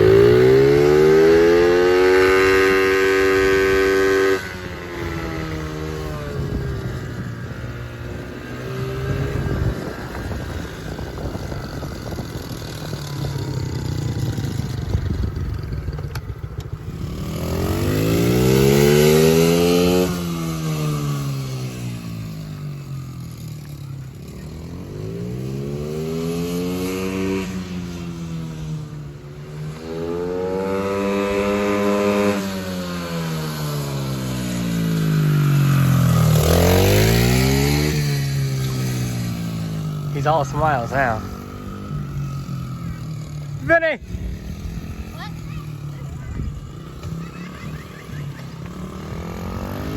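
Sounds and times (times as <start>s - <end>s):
small motorcycle engine revving: 0.0s - 49.9s.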